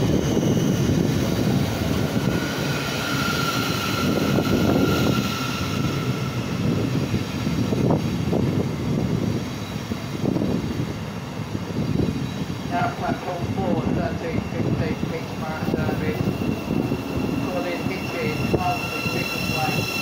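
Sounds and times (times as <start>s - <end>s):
rushing air: 0.0s - 20.0s
train wheels rumbling: 0.0s - 20.0s.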